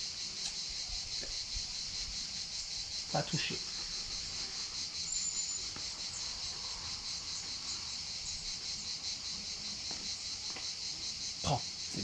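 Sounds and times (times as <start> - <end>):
cicadas buzzing: 0.0 - 12.0.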